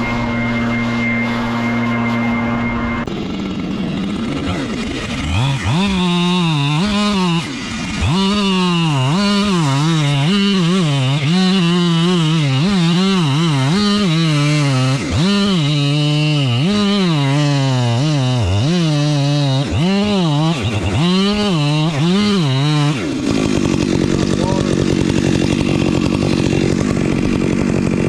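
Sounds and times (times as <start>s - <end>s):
blower drone: 0.0s - 28.0s
chainsaw cutting: 0.0s - 28.0s.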